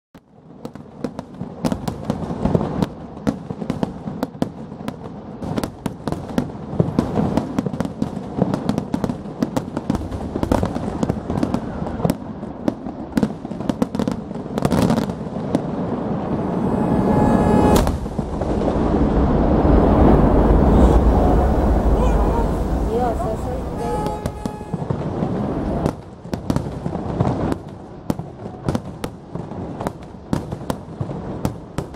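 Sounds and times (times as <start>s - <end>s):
fireworks bangs and crackling: 0.2s - 31.9s.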